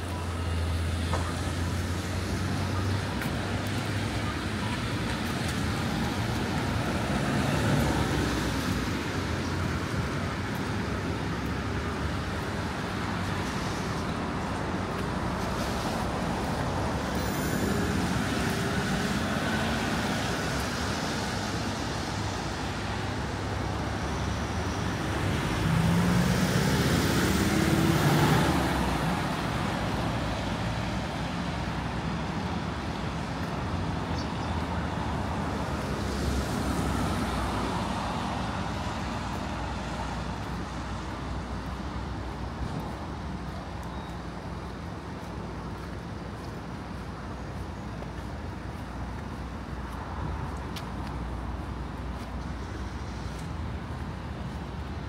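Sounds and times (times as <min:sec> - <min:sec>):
vehicles passing: 0:00.0 - 0:55.0
tyres hissing on wet road: 0:00.1 - 0:55.0.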